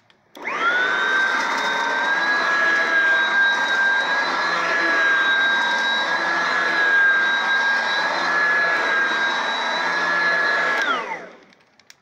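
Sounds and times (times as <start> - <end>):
vacuum cleaner motor whining: 0.4 - 11.6.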